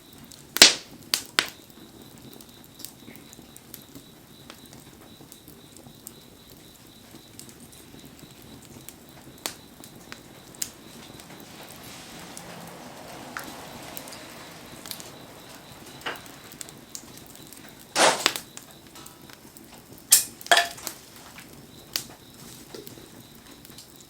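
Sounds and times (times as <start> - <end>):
burning wood popping and cracking: 0.0 - 24.0
campfire hissing: 0.0 - 24.0.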